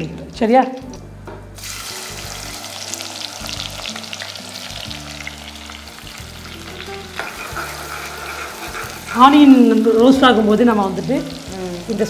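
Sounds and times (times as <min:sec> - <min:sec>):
onions sizzling in oil: 0:01.6 - 0:12.0.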